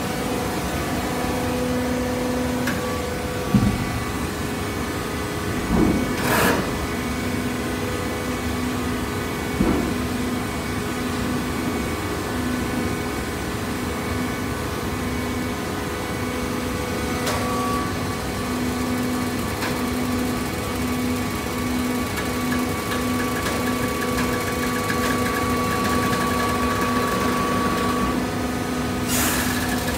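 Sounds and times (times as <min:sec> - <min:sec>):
baling press machine hum: 0:00.0 - 0:29.9.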